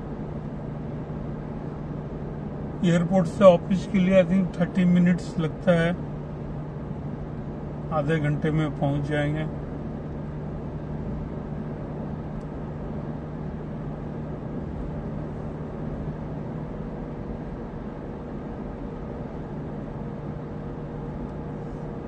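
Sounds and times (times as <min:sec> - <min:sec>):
road and engine noise in car: 0:00.0 - 0:22.0.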